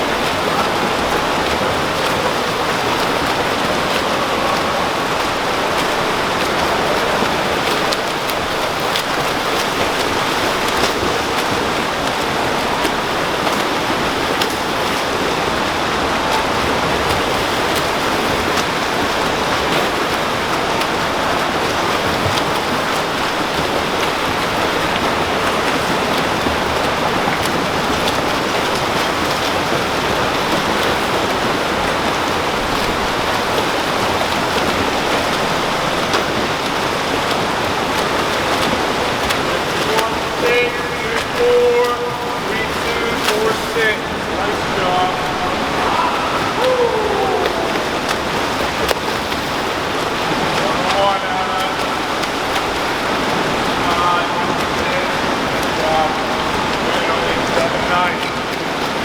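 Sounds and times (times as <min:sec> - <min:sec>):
swimmers splashing water: 0:00.0 - 0:59.0.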